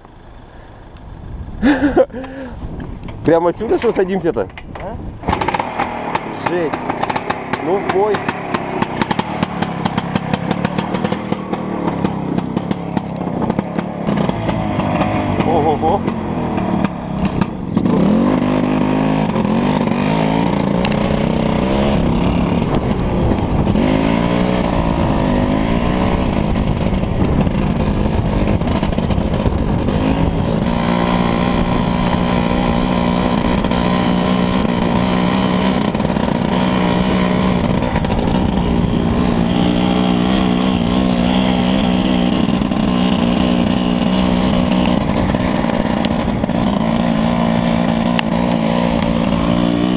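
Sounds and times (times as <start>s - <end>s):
small vehicle engine revving: 5.1s - 49.9s.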